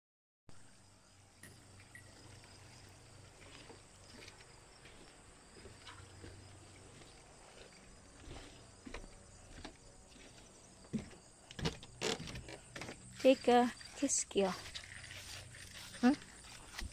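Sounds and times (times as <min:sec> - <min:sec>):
insects chirping: 0:00.6 - 0:16.9.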